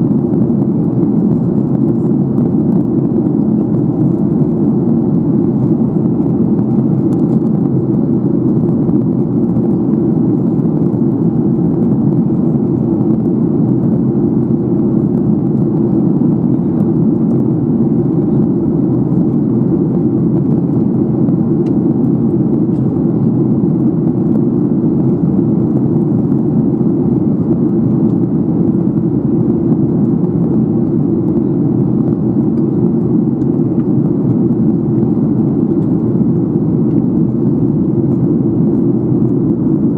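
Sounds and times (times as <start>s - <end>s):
jet airliner cabin drone: 0.0s - 39.9s.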